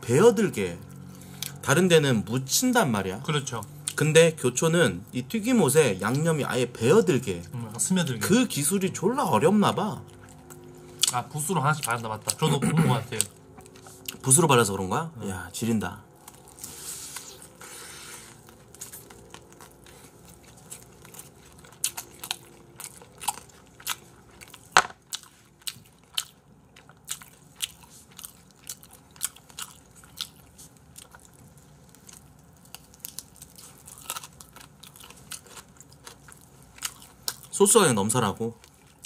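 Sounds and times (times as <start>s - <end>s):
crunchy chewing of fried chicken: 0.3s - 14.8s, 15.5s - 39.0s.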